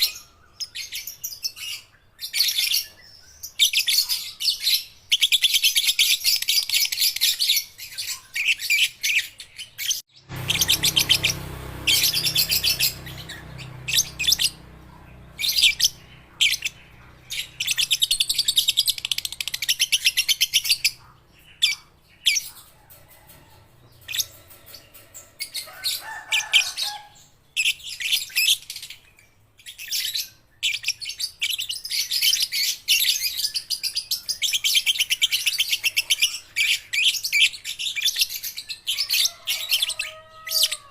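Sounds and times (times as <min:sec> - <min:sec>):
lovebirds chattering and trilling: 0:00.0 - 0:40.9.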